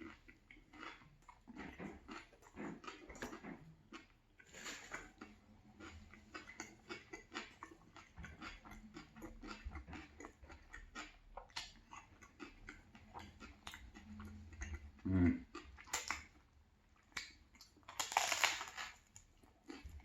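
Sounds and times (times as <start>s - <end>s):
chewing crunchy bread: 0.0s - 20.0s.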